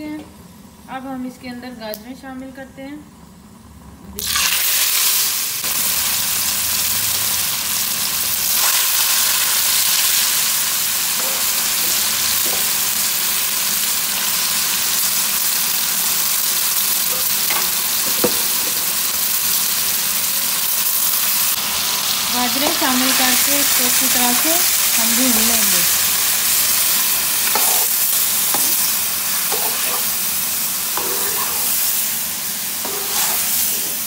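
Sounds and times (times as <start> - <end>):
carrots sizzling in hot oil: 4.2 - 34.0.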